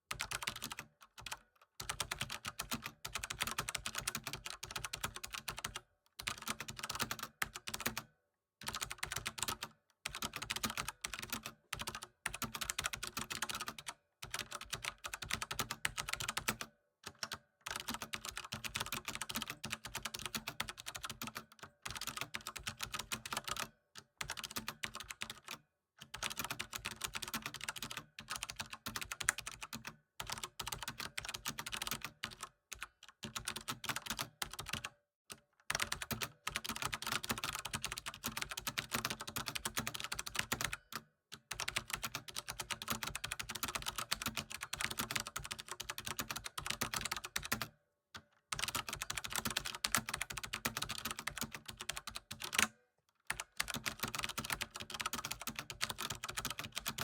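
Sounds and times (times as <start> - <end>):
typing on computer keyboard: 0.1 - 57.0.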